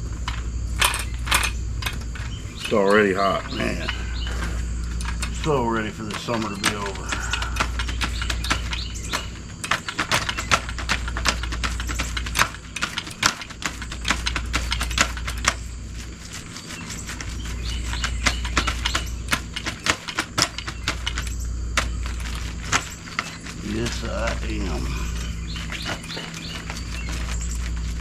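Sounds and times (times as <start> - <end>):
paint roller clicks and crackles: 0.0 - 28.0.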